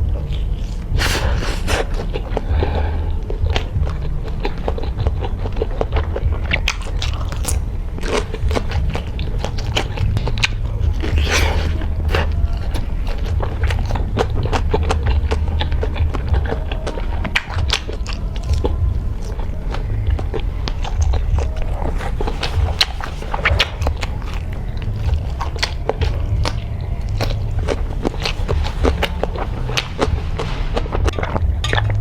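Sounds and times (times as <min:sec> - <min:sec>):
person chewing sausage: 0:00.0 - 0:32.0
steady low hum: 0:00.0 - 0:32.0.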